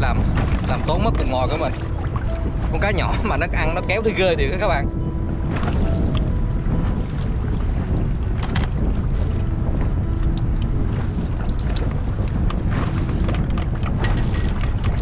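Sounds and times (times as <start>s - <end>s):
choppy water: 0.0s - 15.0s
wind buffeting microphone: 0.0s - 15.0s.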